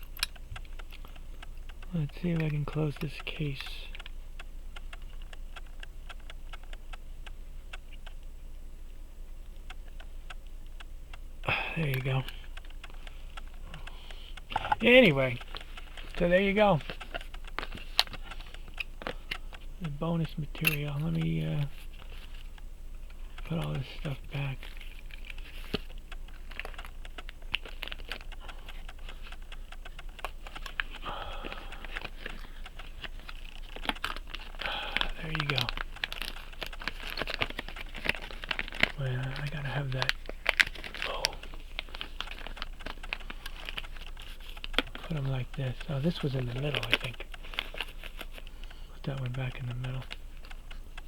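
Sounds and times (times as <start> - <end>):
light clicks and taps: 0.0 - 51.0
pocket watch ticking: 0.0 - 51.0.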